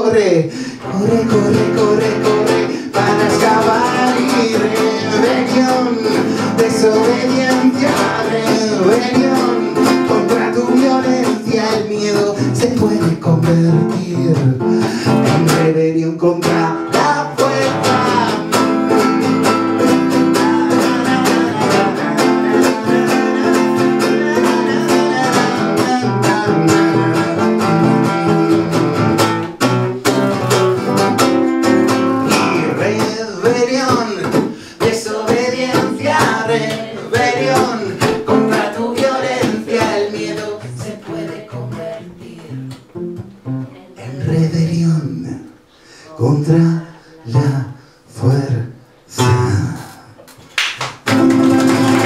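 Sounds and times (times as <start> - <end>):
acoustic guitar strumming: 0.1 - 45.1, 51.0 - 52.0.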